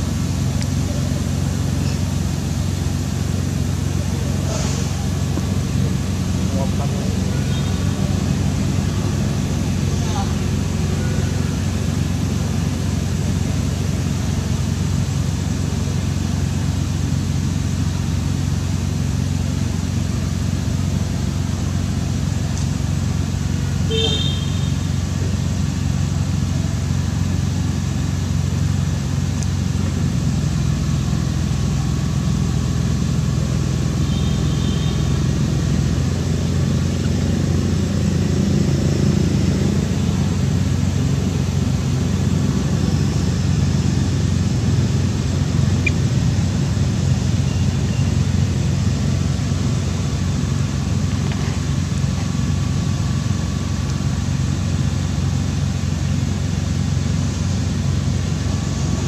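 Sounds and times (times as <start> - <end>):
low mechanical drone: 0.0 - 59.0.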